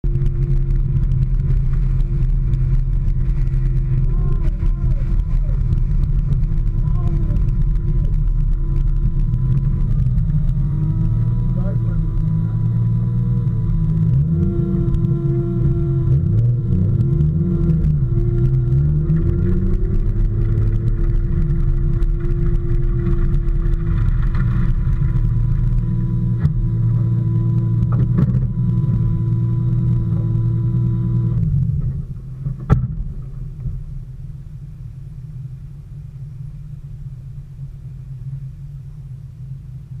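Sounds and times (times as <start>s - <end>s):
car engine running: 0.0s - 40.0s
low rumble: 0.0s - 40.0s.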